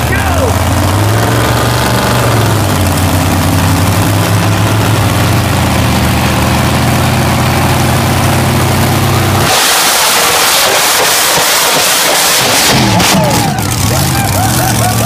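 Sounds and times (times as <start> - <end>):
loud rushing roar: 0.0 - 15.0
truck engines idling: 0.0 - 15.0.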